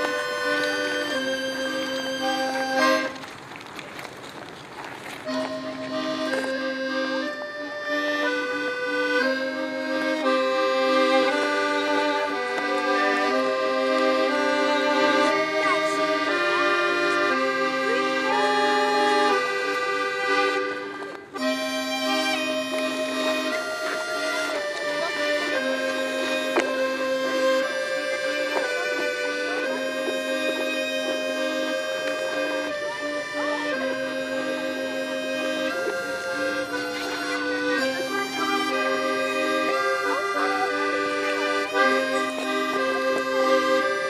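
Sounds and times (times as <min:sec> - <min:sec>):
instrumental background music: 0:00.0 - 0:03.2, 0:05.3 - 0:44.0.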